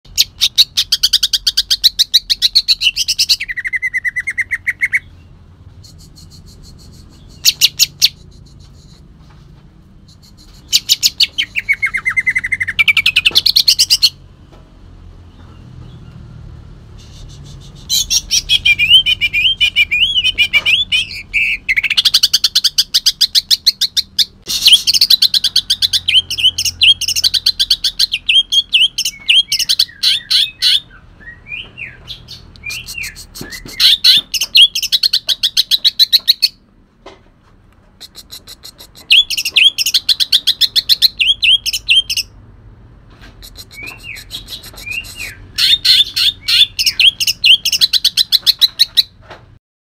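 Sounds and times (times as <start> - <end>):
bird singing harsh bursts: 0.2 - 8.4, 10.1 - 14.2, 17.0 - 36.6, 38.1 - 42.4, 43.5 - 49.1.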